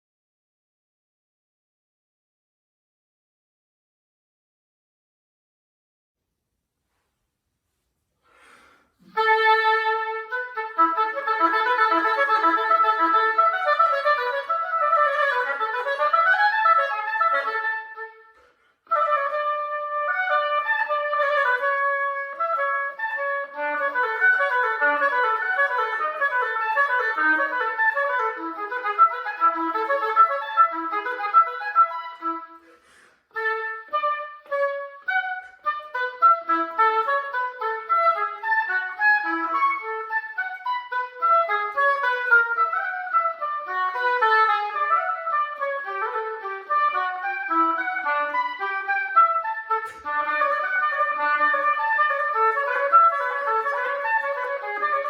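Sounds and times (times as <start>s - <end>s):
solo oboe playing: 8.4s - 55.0s.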